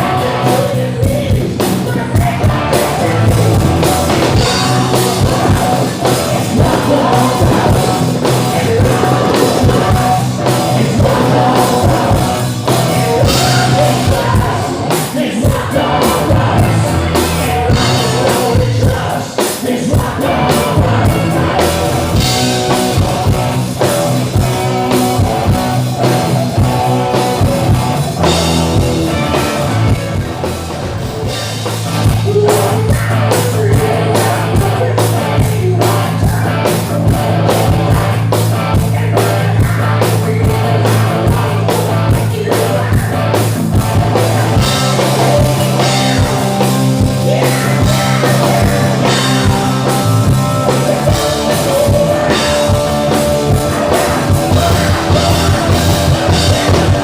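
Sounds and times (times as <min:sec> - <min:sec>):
live hard rock band: 0:00.0 - 0:57.0
person singing: 0:00.0 - 0:57.0.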